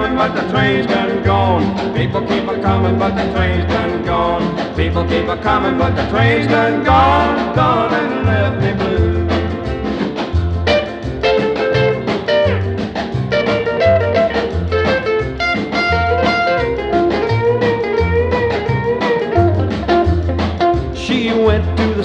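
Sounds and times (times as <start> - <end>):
electric lead guitar bending notes: 0.0 - 22.0
steady drum beat: 0.0 - 22.0
walking bass line: 0.0 - 22.0.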